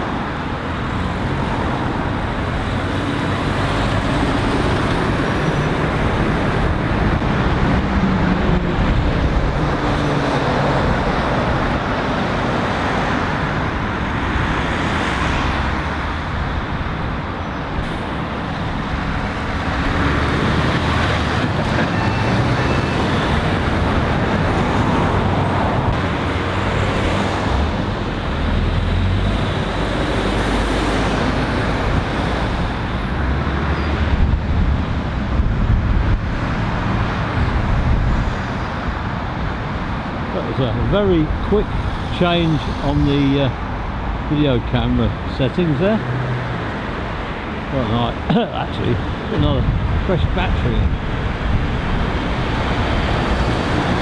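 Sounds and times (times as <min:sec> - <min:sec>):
continuous tyre noise: 0:00.0 - 0:54.0
lorries and cars driving past: 0:00.0 - 0:54.0.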